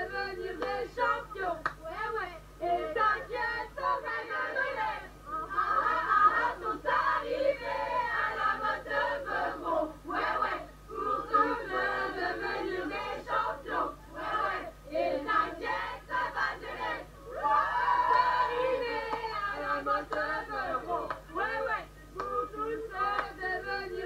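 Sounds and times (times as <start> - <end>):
crowd chanting and singing: 2.6 - 24.0.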